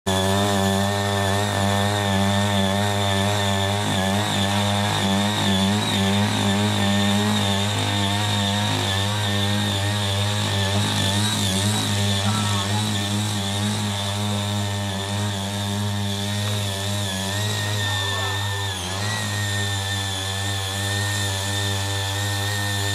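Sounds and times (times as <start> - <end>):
tiller engine running: 0.0 - 22.9.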